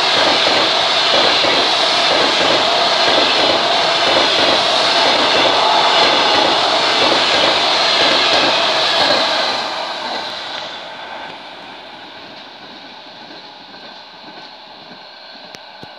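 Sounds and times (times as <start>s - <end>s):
train rushing past on rails: 0.0s - 15.9s.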